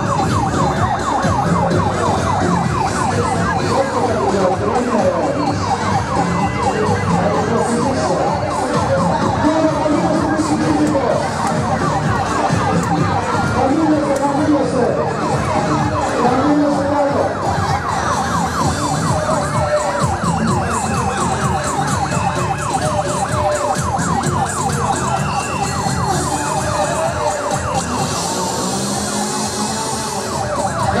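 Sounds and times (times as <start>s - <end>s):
siren yelping: 0.0s - 31.0s
street crowd noise: 0.0s - 31.0s.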